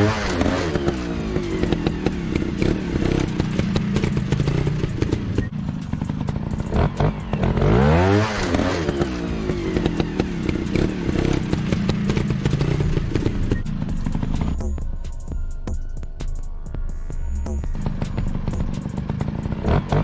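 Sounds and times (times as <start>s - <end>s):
dirt bike engine revving: 0.0s - 14.8s, 17.5s - 20.0s.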